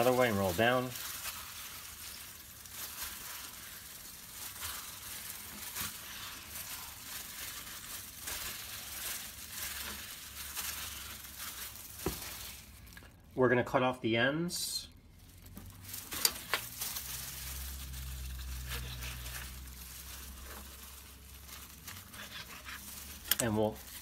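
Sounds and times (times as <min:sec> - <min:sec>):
plastic gloves crinkling: 0:00.0 - 0:24.0.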